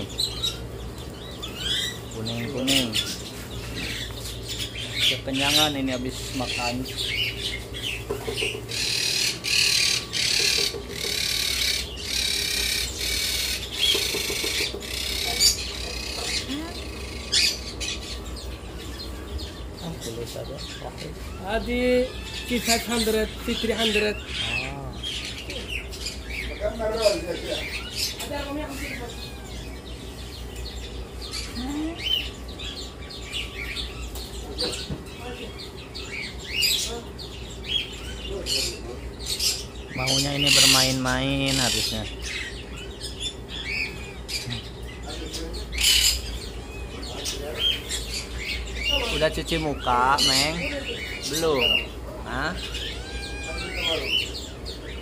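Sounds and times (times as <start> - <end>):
small birds chattering and squawking: 0.0 - 55.0
steady low hum: 0.0 - 55.0.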